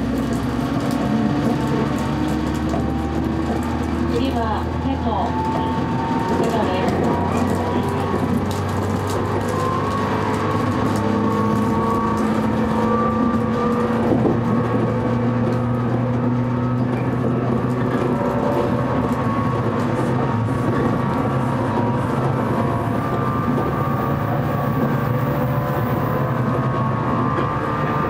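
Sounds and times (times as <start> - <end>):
wheel-on-rail rumble: 0.0 - 28.0.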